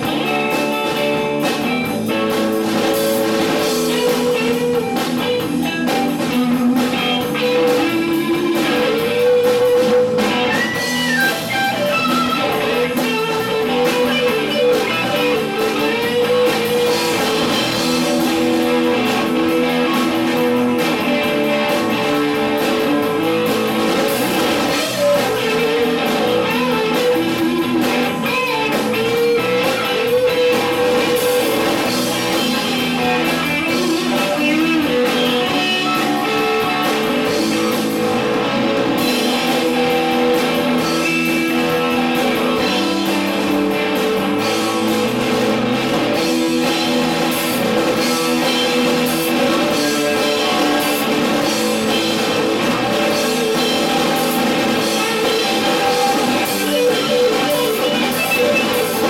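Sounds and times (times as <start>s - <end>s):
drums and cymbals: 0.0s - 59.0s
electric guitar long notes: 0.0s - 59.0s.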